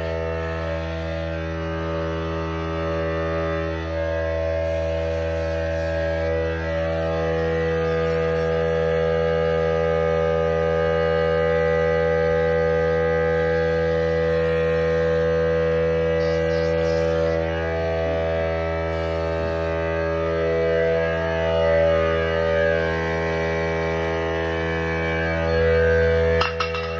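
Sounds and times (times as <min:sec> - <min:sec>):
machine motor whining hum: 0:00.0 - 0:26.9.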